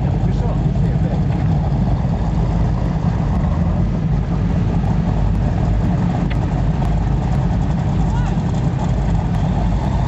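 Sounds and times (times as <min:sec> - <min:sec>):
powerboat engines rumbling: 0:00.0 - 0:10.0
water noise: 0:00.0 - 0:10.0
wind: 0:00.0 - 0:10.0.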